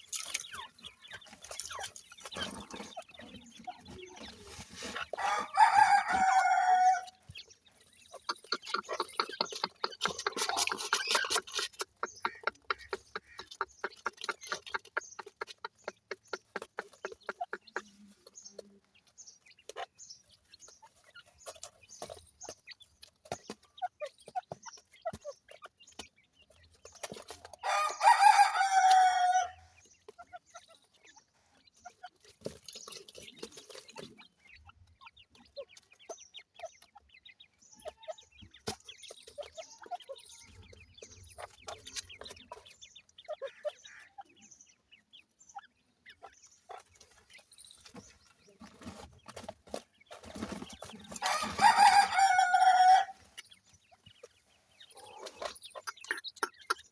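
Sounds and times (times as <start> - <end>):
chicks cheeping: 0.0 - 56.9.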